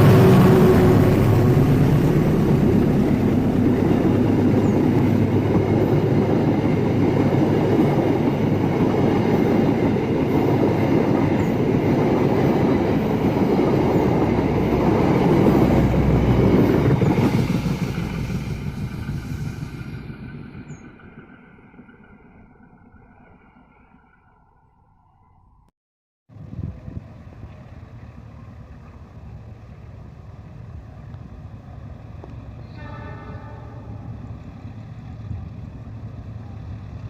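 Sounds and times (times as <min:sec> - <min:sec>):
train wheels rumbling on rails: 0:00.0 - 0:24.4, 0:26.4 - 0:37.0
diesel locomotive engine: 0:00.0 - 0:25.5, 0:26.3 - 0:37.0.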